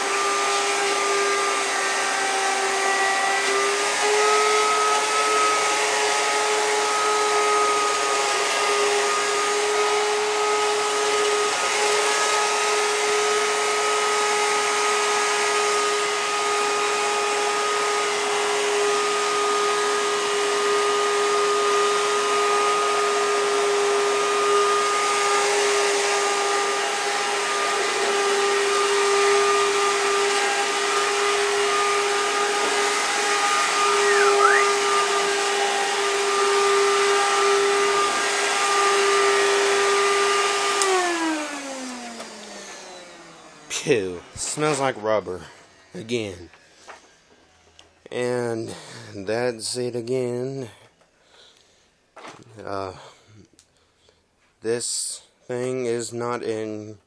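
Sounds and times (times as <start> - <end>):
vacuum cleaner running: 0.0 - 49.1.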